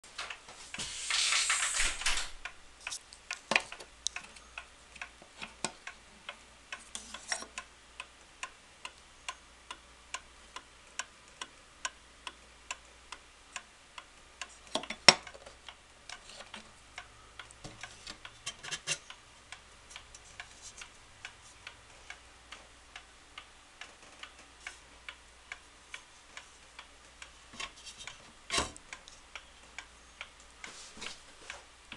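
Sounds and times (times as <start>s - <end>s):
wall clock ticking: 1.3s - 30.8s.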